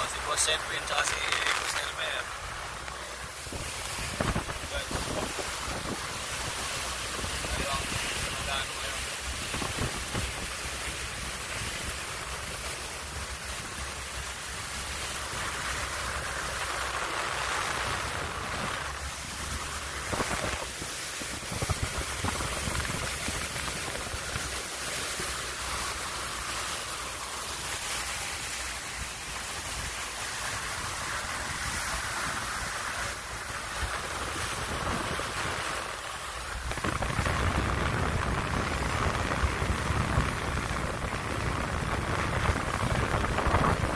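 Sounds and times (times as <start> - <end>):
water rushing along boat hull: 0.0 - 43.9
wind buffeting microphone: 1.1 - 26.5, 28.4 - 43.9.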